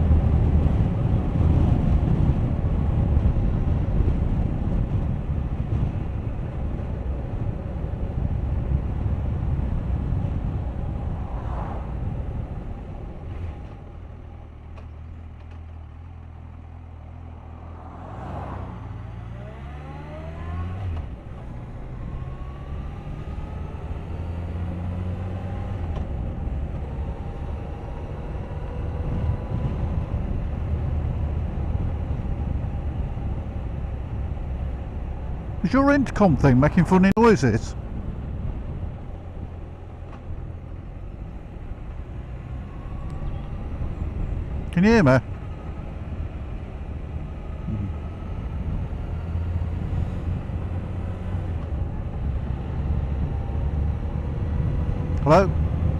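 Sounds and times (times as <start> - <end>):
wind rushing over microphone: 0.0 - 14.2, 17.4 - 55.9.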